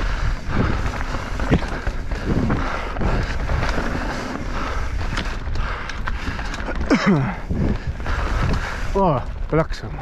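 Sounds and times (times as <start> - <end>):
tyres rolling over dirt: 0.0 - 9.9
bike rattling: 0.0 - 10.0
wind rushing over microphone: 0.0 - 10.0.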